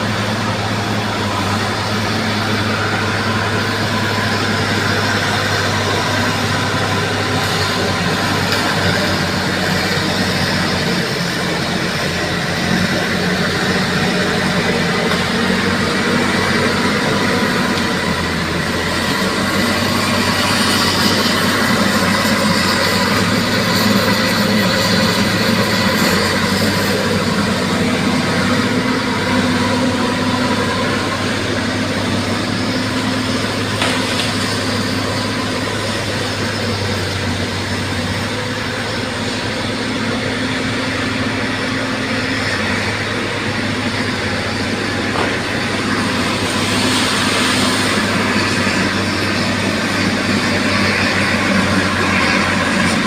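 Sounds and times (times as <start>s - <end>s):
bulldozer engine running: 0.0s - 53.0s.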